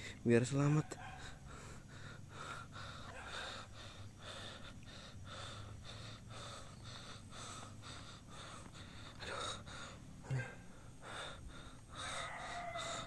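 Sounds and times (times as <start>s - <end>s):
man breathing heavily: 0.0s - 0.2s, 1.0s - 13.0s.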